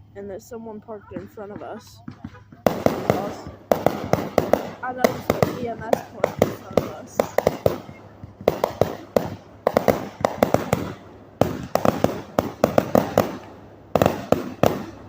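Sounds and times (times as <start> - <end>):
fireworks bangs: 0.6 - 15.0.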